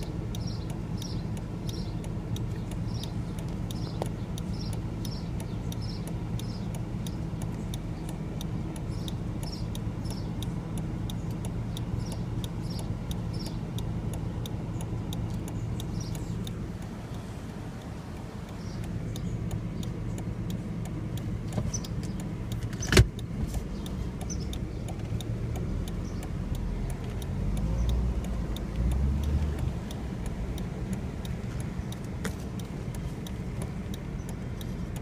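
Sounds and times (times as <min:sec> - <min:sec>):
car engine idling: 0:00.0 - 0:35.0
fast even ticking: 0:00.0 - 0:35.0.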